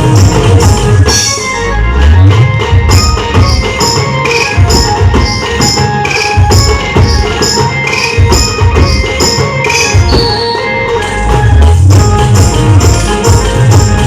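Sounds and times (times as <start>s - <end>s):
band melody: 0.0s - 14.0s
steady drum beat: 0.0s - 14.0s.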